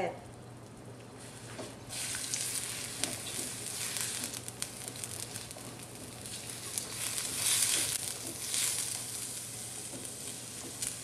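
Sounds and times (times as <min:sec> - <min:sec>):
onion sizzling in oil: 0:01.2 - 0:11.0.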